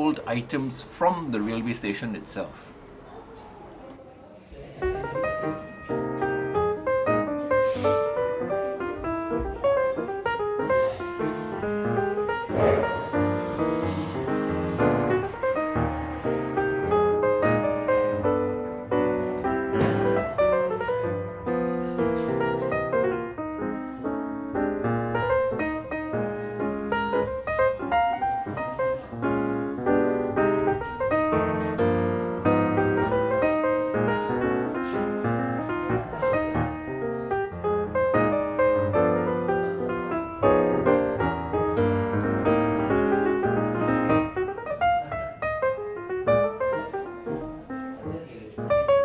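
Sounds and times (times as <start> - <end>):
piano music: 0.0 - 2.7, 4.7 - 49.0.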